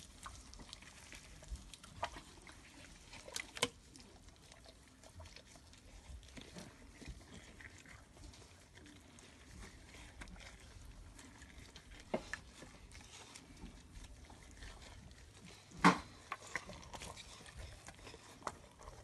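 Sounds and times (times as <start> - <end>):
hands squelching raw chicken: 0.0 - 19.0.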